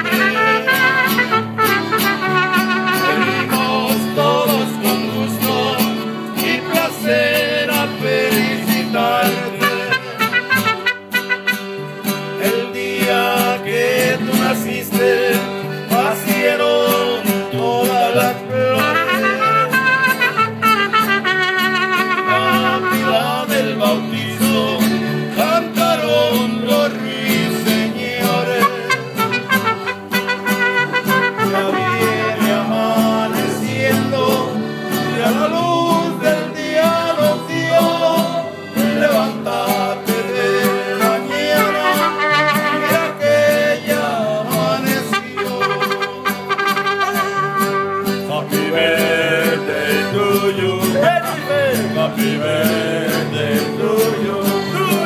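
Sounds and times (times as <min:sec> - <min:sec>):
person singing: 0:00.0 - 0:01.4, 0:02.1 - 0:11.0, 0:12.4 - 0:20.3, 0:21.3 - 0:55.0
strummed guitars: 0:00.0 - 0:55.0.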